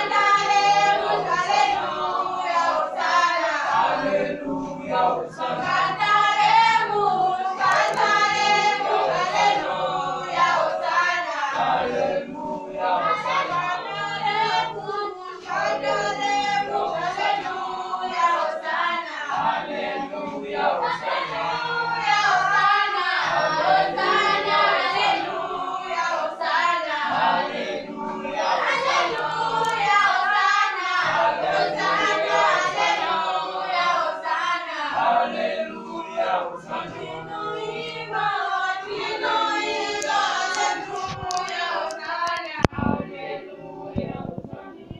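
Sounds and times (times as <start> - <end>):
congregation singing: 0.0 - 44.9.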